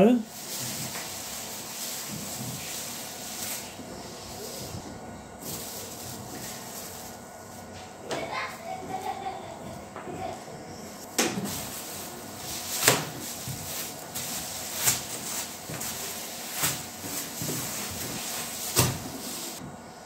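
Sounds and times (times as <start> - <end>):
plastic bag rustling and crinkling: 0.3 - 9.4, 11.3 - 19.6.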